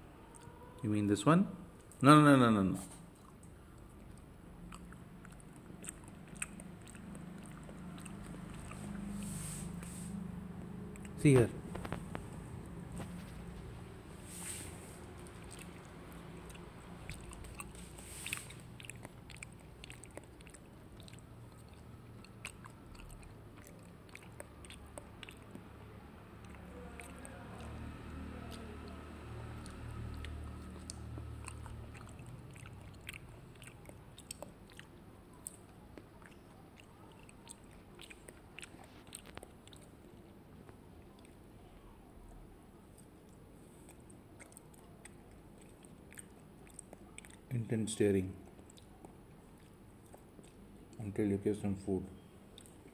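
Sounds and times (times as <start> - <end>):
low steady hum: 0.0 - 52.9
chewing and mouth clicks: 3.1 - 13.8, 15.0 - 41.5, 42.3 - 47.6, 48.4 - 51.1, 52.2 - 52.9.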